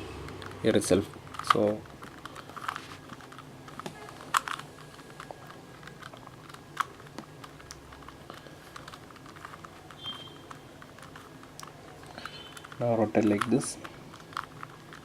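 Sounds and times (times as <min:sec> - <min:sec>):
puzzle cube clicking: 0:00.2 - 0:15.0
sharp plastic clacks: 0:00.2 - 0:15.0.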